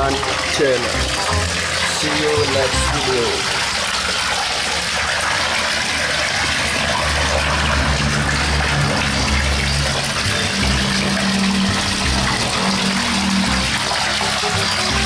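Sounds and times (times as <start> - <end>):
water rushing into pond: 0.0 - 15.0.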